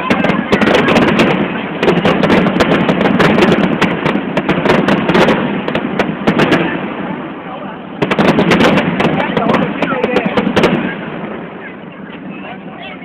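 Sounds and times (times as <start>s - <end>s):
fireworks cracking and popping: 0.0s - 12.3s
crackling rumble: 0.0s - 13.0s.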